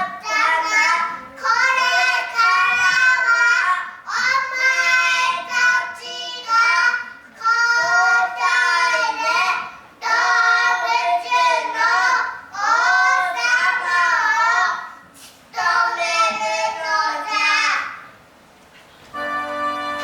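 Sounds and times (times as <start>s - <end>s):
young children singing: 0.0s - 18.1s.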